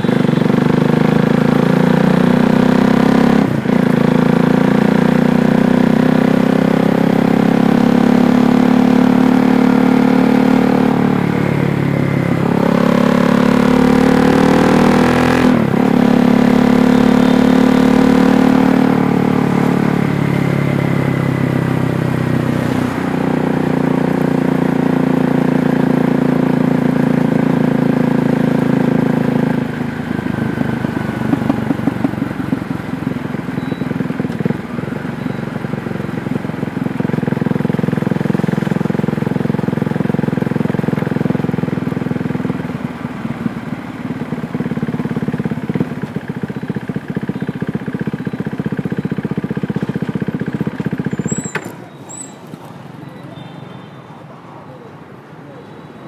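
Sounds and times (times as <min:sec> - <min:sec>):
motorcycle engine running: 0:00.0 - 0:53.7.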